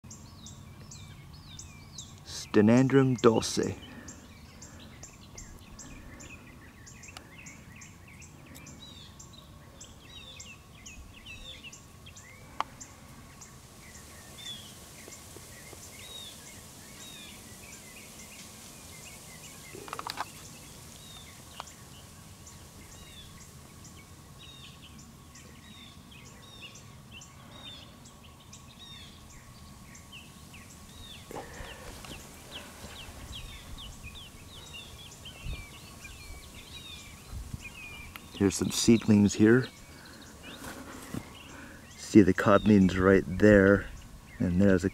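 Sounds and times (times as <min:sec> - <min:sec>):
birds chirping: 0:00.0 - 0:44.9
faint steady high hum: 0:00.1 - 0:44.9.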